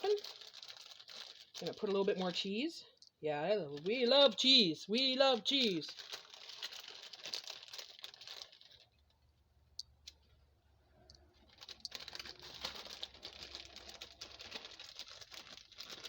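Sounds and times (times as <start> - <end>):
plastic bag crinkling: 0.0 - 9.3, 11.0 - 16.0.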